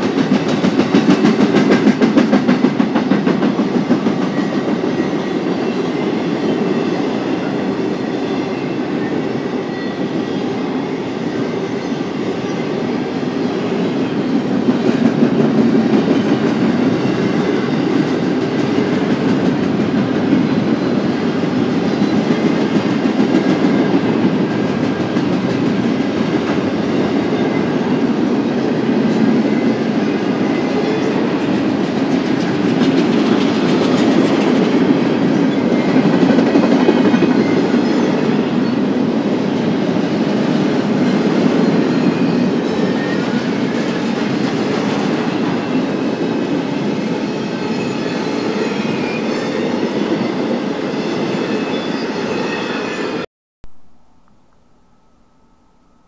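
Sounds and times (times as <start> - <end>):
freight train rumble: 0.0 - 54.3.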